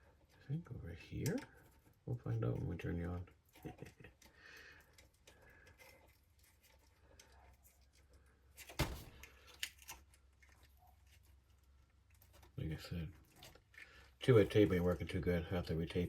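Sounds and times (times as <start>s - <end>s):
handling small parts: 1.1s - 15.2s.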